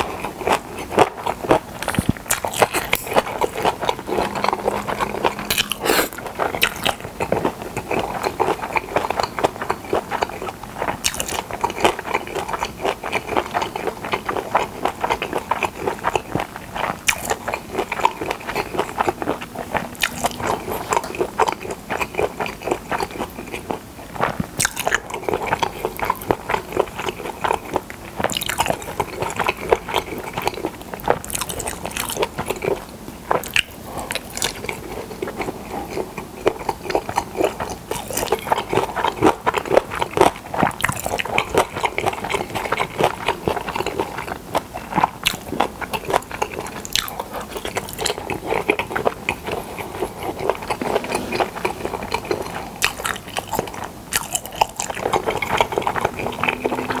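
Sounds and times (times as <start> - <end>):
close chewing and biting: 0.0 - 57.0.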